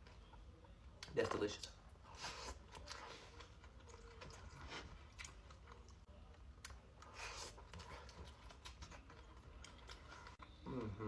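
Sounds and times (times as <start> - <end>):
close-up chewing: 1.9 - 11.0.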